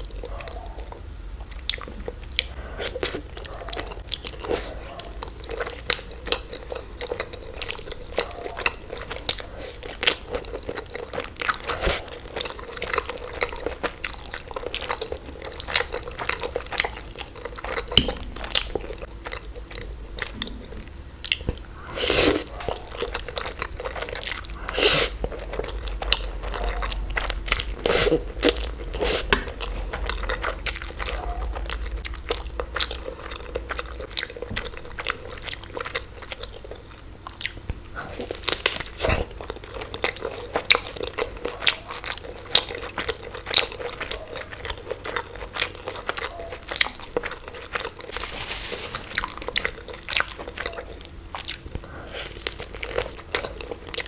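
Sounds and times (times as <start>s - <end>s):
close chewing and crunching: 0.0s - 54.0s.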